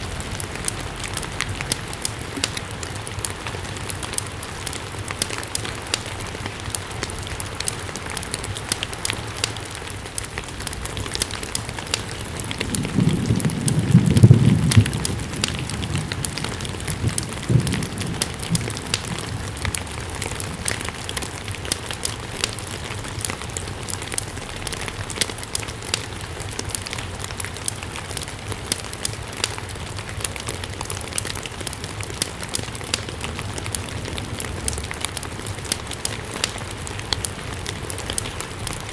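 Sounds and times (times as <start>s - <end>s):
steady rain: 0.0s - 38.9s
wood fire popping and crackling: 0.0s - 38.9s.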